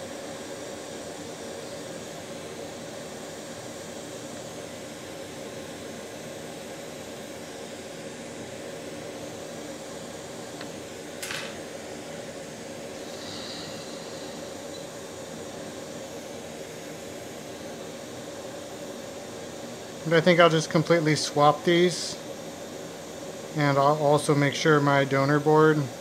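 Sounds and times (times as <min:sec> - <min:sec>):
fan whirring: 0:00.0 - 0:26.0.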